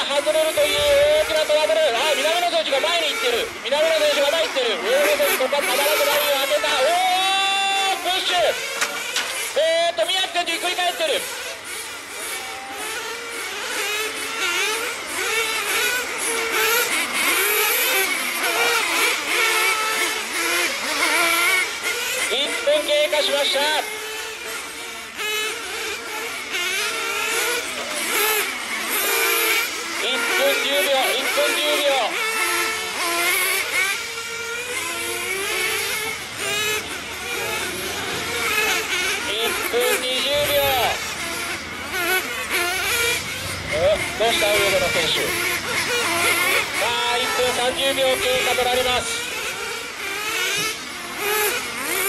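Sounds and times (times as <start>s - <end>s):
rc car engines whining: 0.0s - 52.0s.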